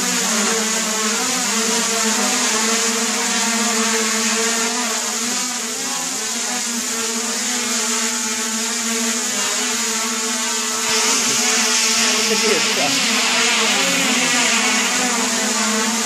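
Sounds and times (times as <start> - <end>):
quadcopter motors whirring: 0.0 - 16.0.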